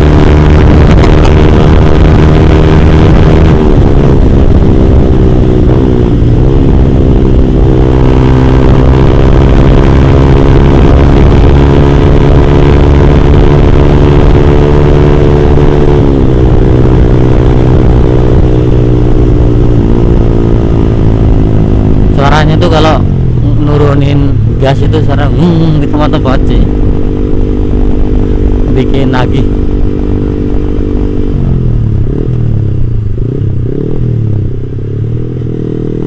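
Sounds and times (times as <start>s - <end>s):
motorcycle engine at high revs: 0.0s - 36.0s.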